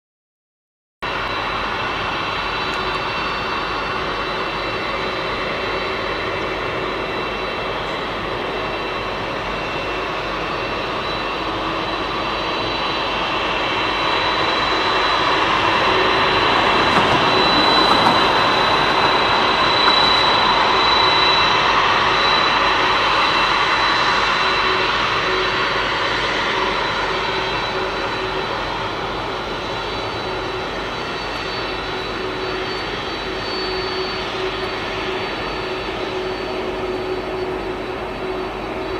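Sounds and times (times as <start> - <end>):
jet engines rushing and whining: 1.0 - 38.9.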